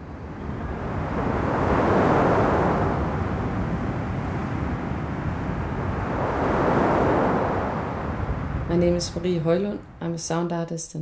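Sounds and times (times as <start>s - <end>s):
ocean waves: 0.0s - 10.0s.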